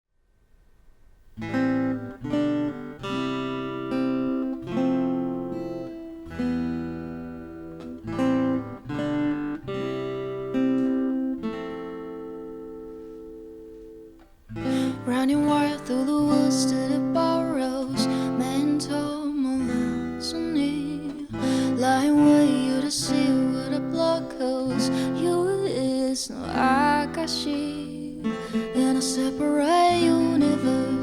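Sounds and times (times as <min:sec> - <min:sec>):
acoustic guitar strumming chords: 0:01.4 - 0:31.0.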